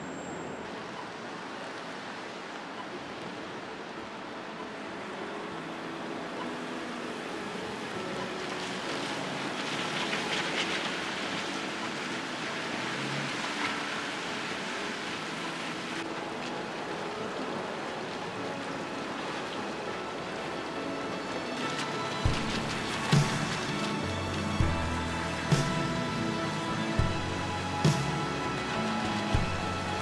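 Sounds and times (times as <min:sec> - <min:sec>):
tyres hissing on wet road: 0:04.7 - 0:30.0.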